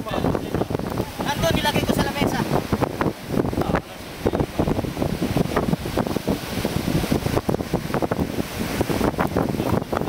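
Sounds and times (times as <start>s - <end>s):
surf washing: 0.0s - 10.0s
wind buffeting microphone: 0.0s - 10.0s.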